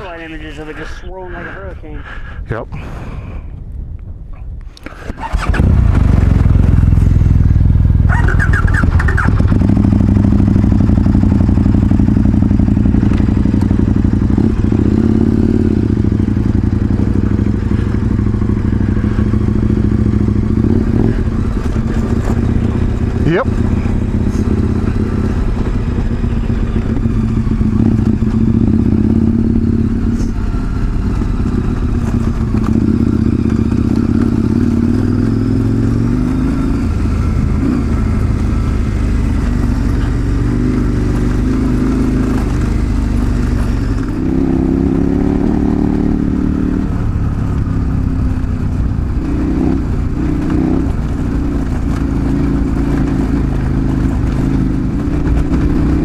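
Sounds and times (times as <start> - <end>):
motorcycle engine revving: 5.2 - 56.0.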